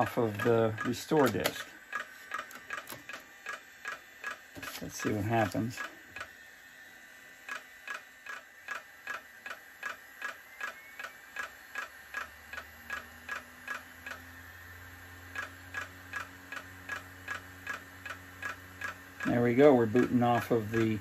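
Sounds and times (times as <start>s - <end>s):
hard drive clicking: 0.0s - 6.4s, 7.4s - 21.0s.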